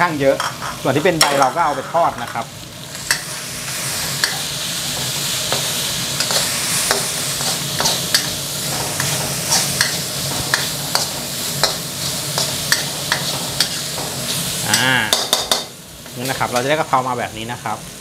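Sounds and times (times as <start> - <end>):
meat sizzling in a wok: 0.0 - 18.0
metal spatula scraping wok: 0.4 - 16.8.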